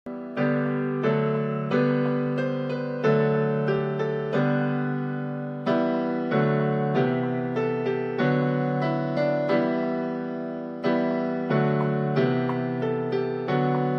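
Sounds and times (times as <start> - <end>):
slow gentle piano music: 0.1 - 13.9.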